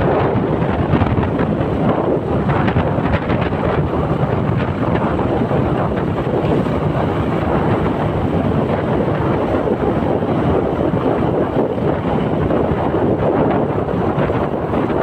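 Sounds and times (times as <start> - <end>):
wind rush over microphone: 0.0 - 15.0.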